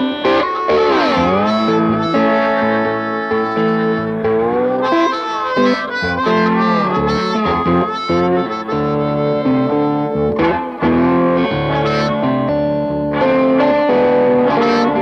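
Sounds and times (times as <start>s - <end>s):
blues guitar: 0.0s - 15.0s
harmonica bent notes: 0.0s - 15.0s.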